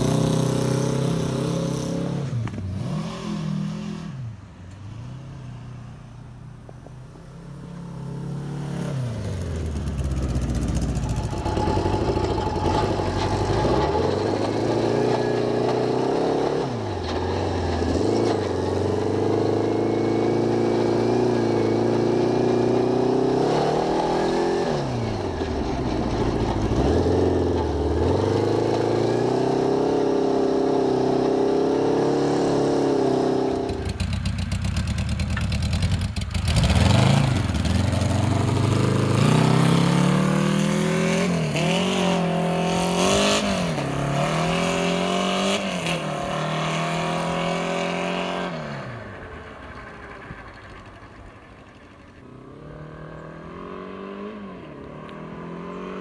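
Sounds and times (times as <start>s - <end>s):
buggy engine revving: 0.0s - 6.3s, 7.3s - 56.0s.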